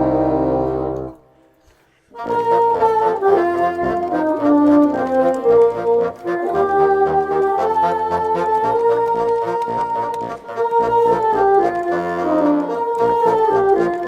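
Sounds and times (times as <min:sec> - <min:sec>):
bassoon ensemble playing a carol: 0:00.0 - 0:01.2, 0:02.2 - 0:14.0.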